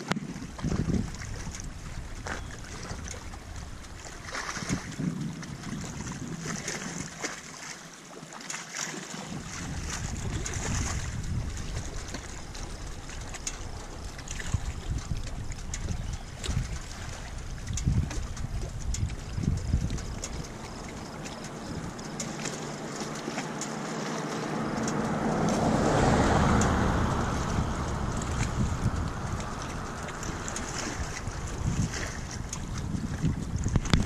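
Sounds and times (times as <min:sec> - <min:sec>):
wind buffeting microphone: 0:00.0 - 0:07.4, 0:09.1 - 0:34.0
waves lapping at rocky shore: 0:00.0 - 0:34.0.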